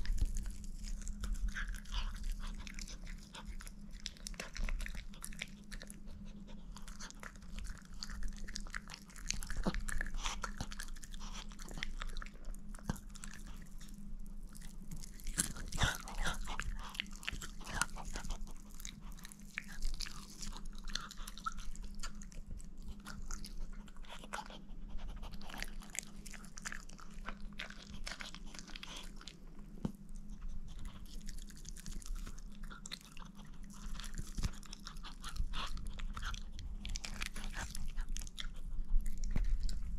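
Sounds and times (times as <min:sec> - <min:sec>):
dog chewing and crunching: 0:00.0 - 0:39.9
low steady hum: 0:00.0 - 0:39.9.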